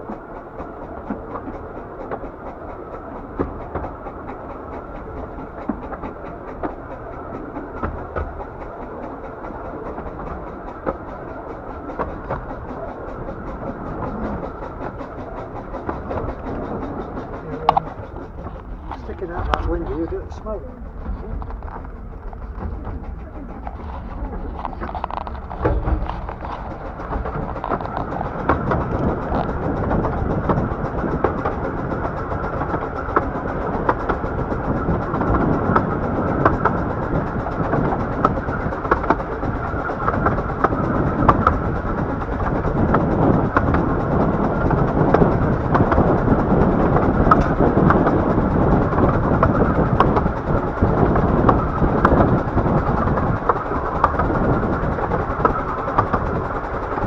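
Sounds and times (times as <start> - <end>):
train carriages running: 0.0 - 57.0
wheels clicking over rail joints: 0.0 - 57.0.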